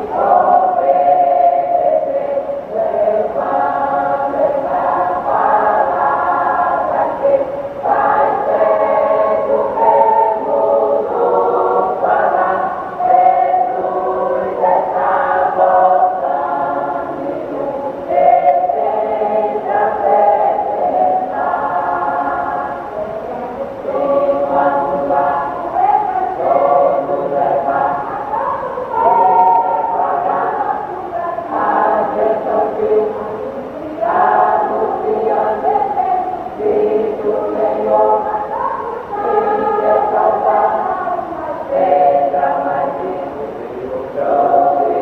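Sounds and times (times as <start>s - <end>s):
choir singing a hymn: 0.0s - 45.0s.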